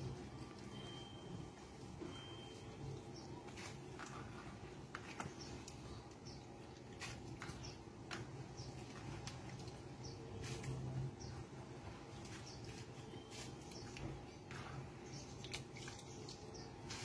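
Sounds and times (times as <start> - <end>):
wet squishing of kneaded coconut: 3.0 - 17.0.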